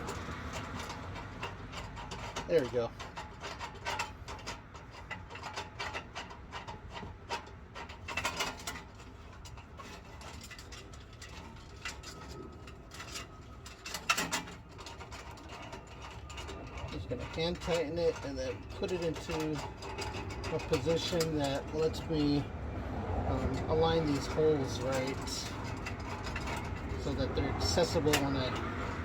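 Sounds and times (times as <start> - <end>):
metal clicks and scraping: 0.0 - 29.0.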